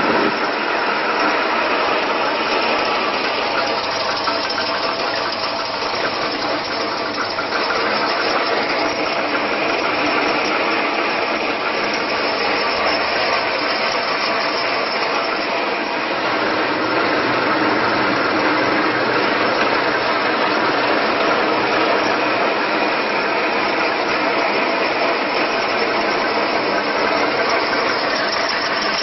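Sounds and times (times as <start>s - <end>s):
flaking machine running: 0.0s - 29.0s.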